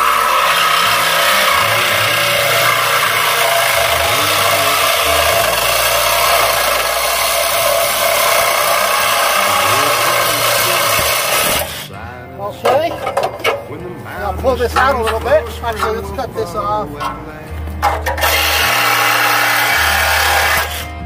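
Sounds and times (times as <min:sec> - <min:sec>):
power tool cutting steel pipe: 0:00.0 - 0:12.0, 0:12.6 - 0:13.8, 0:14.5 - 0:21.0.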